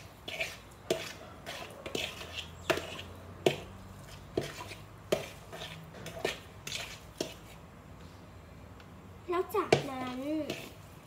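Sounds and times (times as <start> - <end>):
utensil scraping bowl: 0.0 - 7.6, 9.7 - 10.9.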